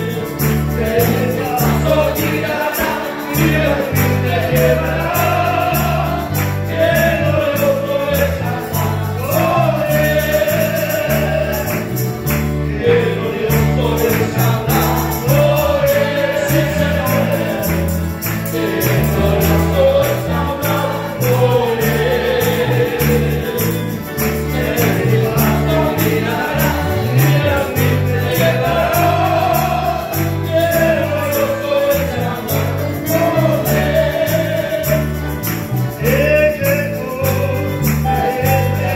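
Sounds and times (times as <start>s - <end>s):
bass line: 0.0s - 38.9s
congregation singing a hymn: 0.0s - 38.9s
guitars playing: 0.0s - 38.9s.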